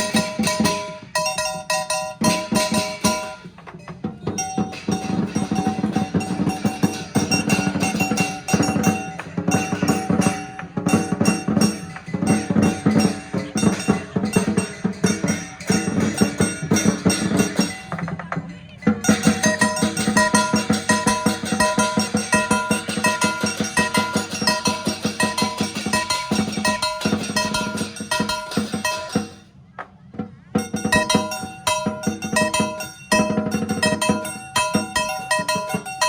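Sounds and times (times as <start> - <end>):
fast dense drumming: 0.0 - 29.4, 30.3 - 36.0
steady held tones: 0.0 - 29.4, 30.7 - 36.0.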